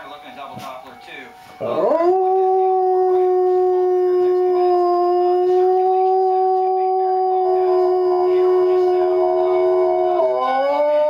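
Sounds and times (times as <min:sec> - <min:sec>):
dog howling: 0:01.6 - 0:11.0
warning siren: 0:01.6 - 0:11.0.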